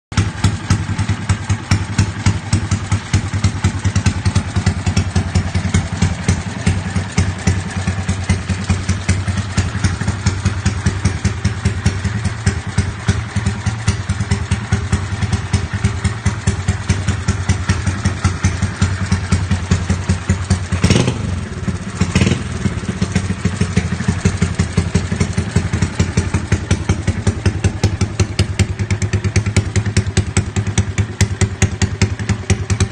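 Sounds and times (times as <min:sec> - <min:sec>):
motorcycle engine idling: 0:00.2 - 0:32.9.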